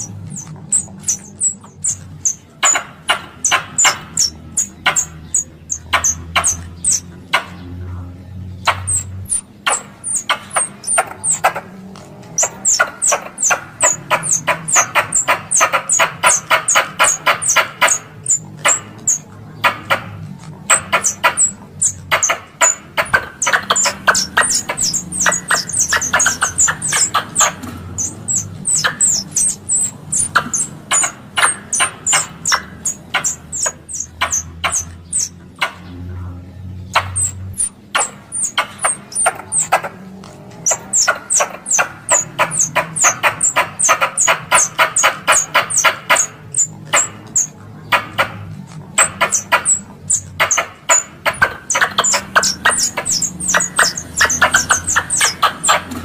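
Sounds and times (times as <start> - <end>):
squirrel chirping: 0.0 - 7.8, 8.4 - 36.0, 36.8 - 56.0
squirrel clicking chatter: 0.0 - 7.8, 8.4 - 56.0.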